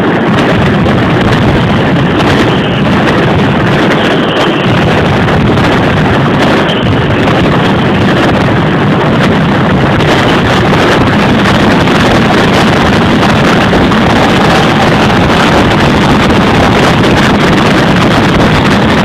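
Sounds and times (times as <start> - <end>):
firecracker barrage: 0.0 - 19.0.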